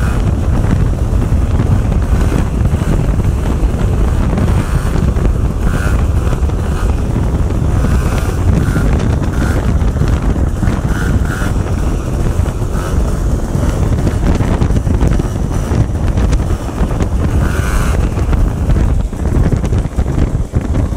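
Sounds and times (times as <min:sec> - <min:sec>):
scooter engine: 0:00.0 - 0:20.9
wind buffeting microphone: 0:00.0 - 0:20.9.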